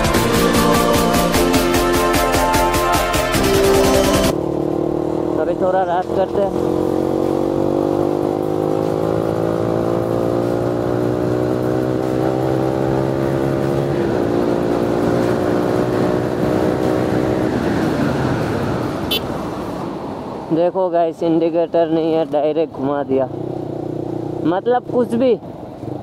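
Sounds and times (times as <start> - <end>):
motorcycle engine revving: 0.0 - 19.5, 23.0 - 26.0.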